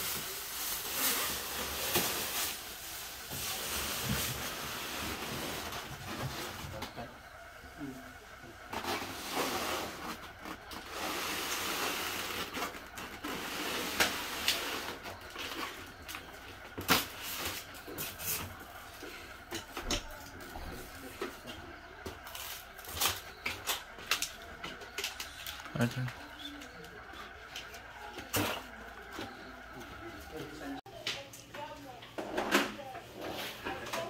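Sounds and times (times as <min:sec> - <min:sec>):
refrigerator scraping along ground: 0:00.0 - 0:07.3, 0:08.6 - 0:30.8, 0:33.1 - 0:34.0.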